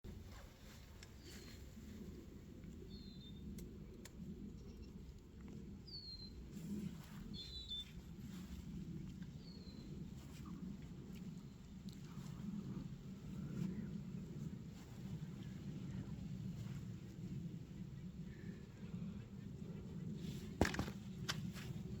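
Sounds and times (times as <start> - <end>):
low background rumble: 0.1 - 22.0.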